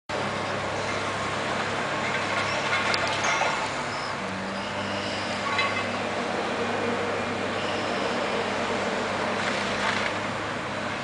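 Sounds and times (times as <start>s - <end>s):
excavator diesel engine running: 0.1s - 11.0s.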